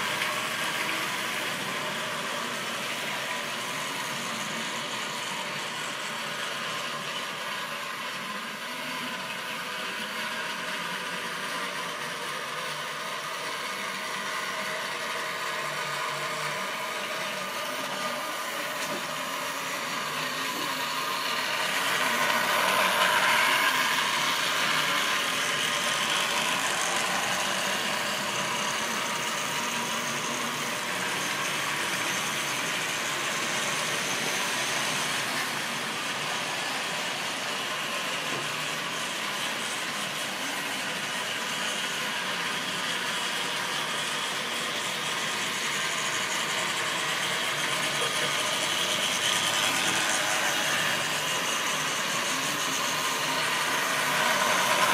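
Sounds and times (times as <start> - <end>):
model train whirring and rattling: 0.0 - 54.9.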